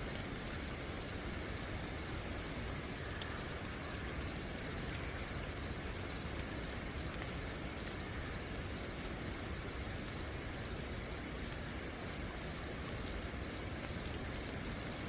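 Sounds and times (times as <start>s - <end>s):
cricket trill: 0.0s - 15.0s
faint ticks: 0.0s - 15.0s
rain hissing: 0.0s - 15.0s.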